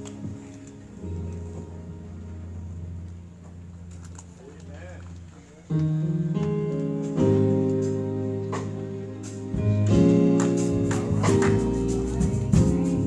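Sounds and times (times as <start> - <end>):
keyboard playing gospel chords: 0.0 - 13.0.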